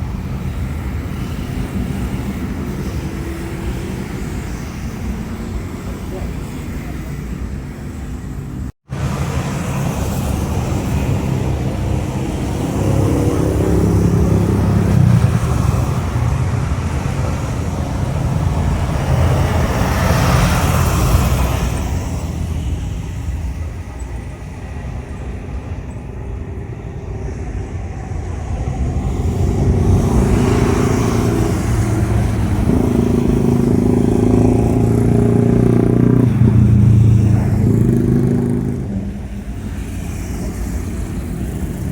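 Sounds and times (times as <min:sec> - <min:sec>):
jet airliner taking off: 0:00.0 - 0:41.9
motorcycles passing: 0:00.0 - 0:41.9
road traffic engines: 0:00.0 - 0:41.9.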